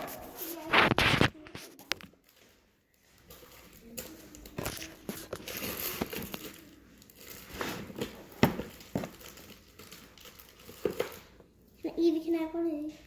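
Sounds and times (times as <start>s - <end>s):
candy wrappers crinkling: 0.0s - 11.4s.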